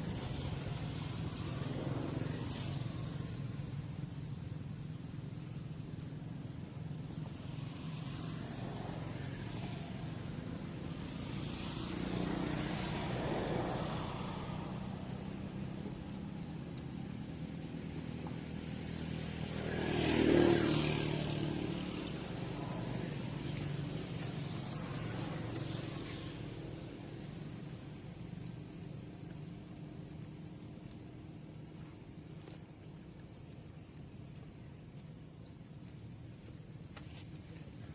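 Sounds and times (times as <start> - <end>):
motor vehicles rumbling: 0.0 - 37.9.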